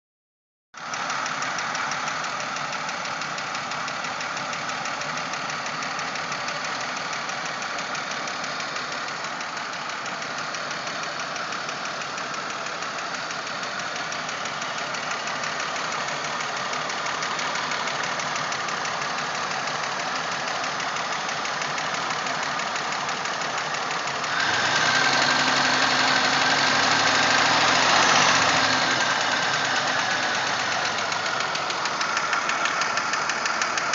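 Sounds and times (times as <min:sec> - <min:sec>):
car engine knocking: 0:00.8 - 0:33.9.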